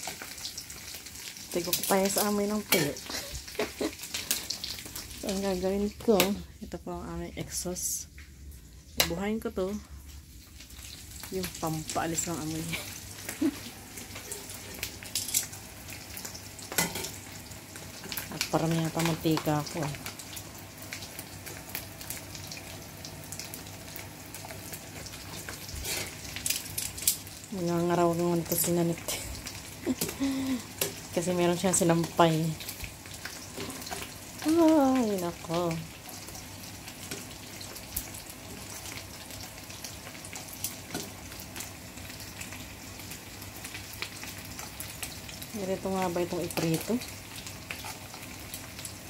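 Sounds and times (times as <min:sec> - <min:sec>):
fish frying in oil: 0:00.0 - 0:49.0.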